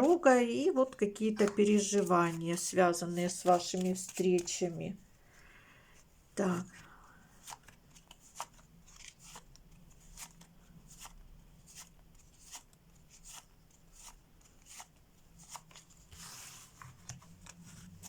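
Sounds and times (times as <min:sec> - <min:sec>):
cards rustling: 0:00.9 - 0:05.4, 0:06.8 - 0:18.0.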